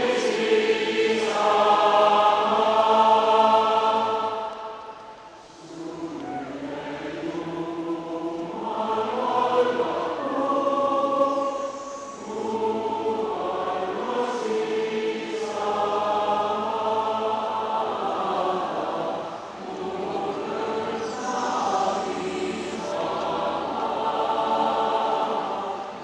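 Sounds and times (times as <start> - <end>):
massed choir singing: 0.0 - 26.0.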